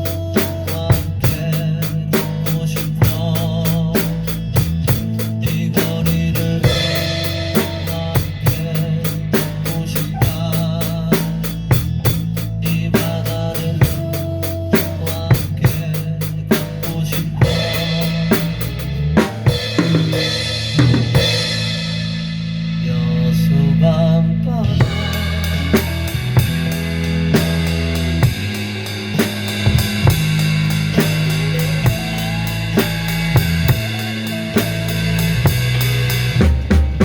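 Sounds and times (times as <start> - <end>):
drum kit playing: 0.0 - 23.5, 24.6 - 37.0
recorded pop song: 0.0 - 37.0.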